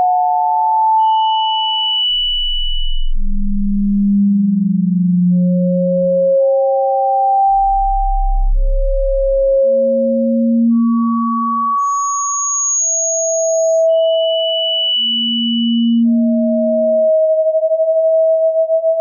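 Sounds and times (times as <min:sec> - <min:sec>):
electronic sine tones: 0:00.0 - 0:19.0.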